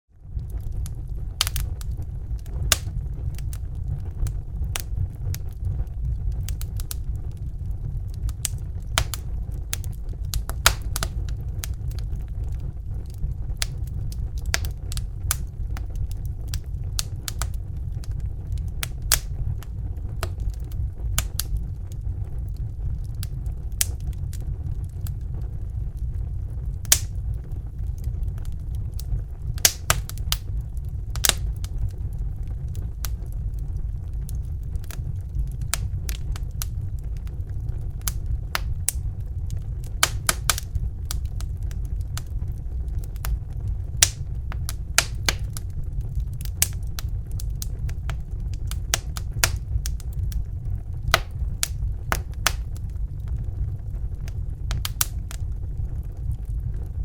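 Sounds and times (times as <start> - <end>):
crackling fire: 0.1 - 57.0.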